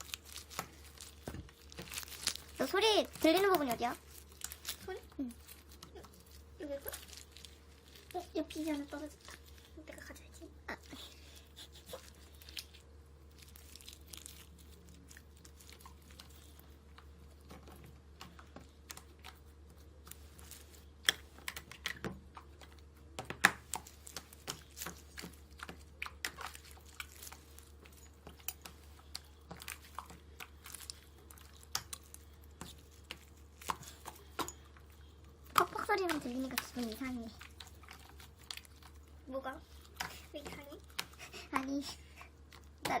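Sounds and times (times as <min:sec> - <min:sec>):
faint steady hum: 0:00.0 - 0:43.0
hands kneading slime: 0:00.0 - 0:43.0.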